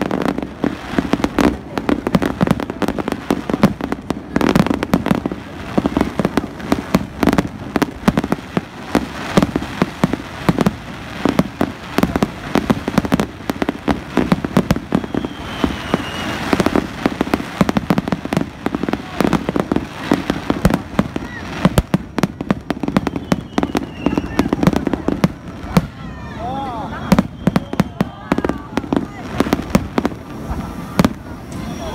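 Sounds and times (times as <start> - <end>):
fireworks bangs and crackling: 0.0 - 31.9.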